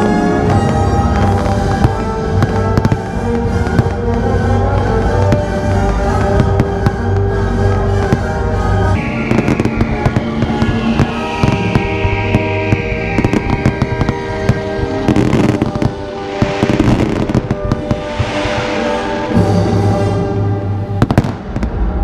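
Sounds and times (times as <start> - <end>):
fireworks bangs and crackles: 0.0 - 22.0
music: 0.0 - 22.0.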